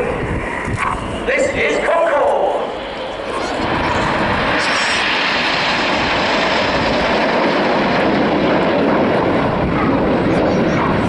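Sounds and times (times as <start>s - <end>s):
jets flying overhead: 0.0s - 11.0s.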